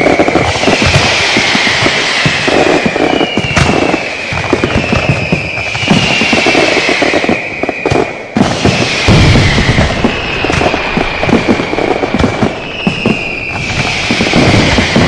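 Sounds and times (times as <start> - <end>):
falling whistling fireworks: 0.0 - 15.0
firecrackers crackling: 0.0 - 15.0
sharp firework bang: 0.0 - 15.0.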